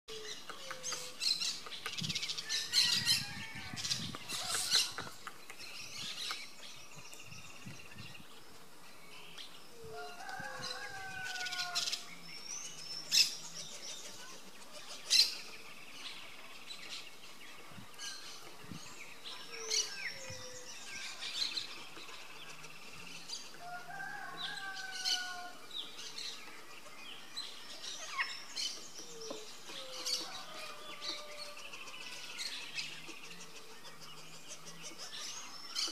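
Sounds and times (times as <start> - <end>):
birds chirping and calling: 0.1 - 35.9.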